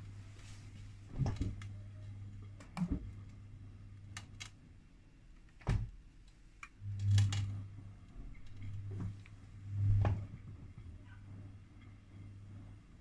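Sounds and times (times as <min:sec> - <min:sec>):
washing machine drum motor humming: 0:00.0 - 0:06.1, 0:06.7 - 0:13.0.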